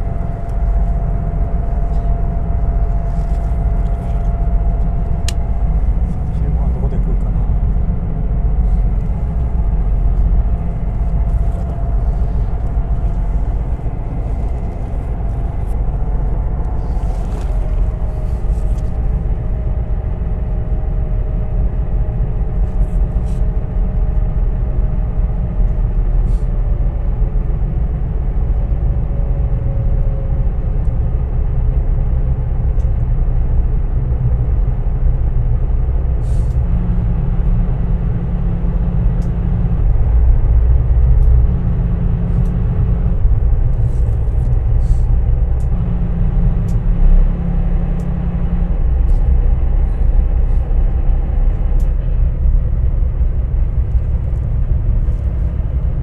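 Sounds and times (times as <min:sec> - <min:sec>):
faint engine tone: 0:00.0 - 0:56.0
ferry engines low rumble: 0:00.0 - 0:56.0.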